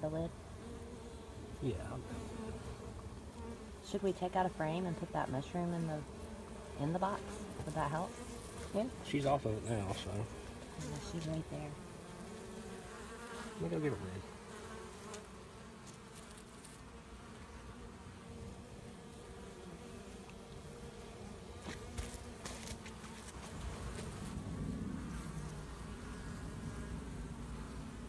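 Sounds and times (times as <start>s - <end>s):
honey bees buzzing: 0.0s - 28.0s.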